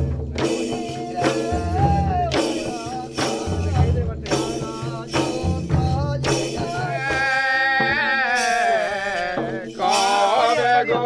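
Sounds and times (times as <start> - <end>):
men singing together: 0.0 - 11.0
rhythmic percussion beat: 0.0 - 11.0.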